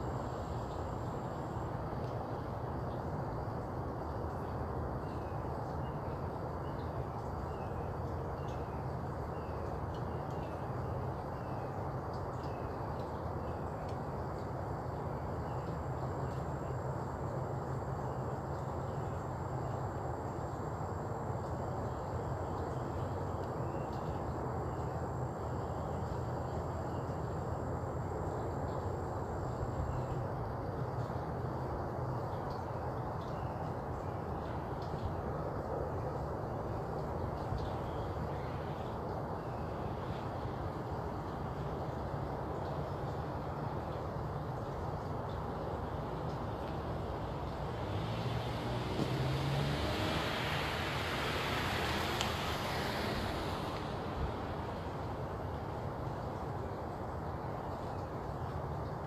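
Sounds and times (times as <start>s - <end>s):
faint high insect-like tone: 0.0s - 59.0s
low background hum: 0.0s - 59.0s
outdoor background noise: 0.0s - 59.0s.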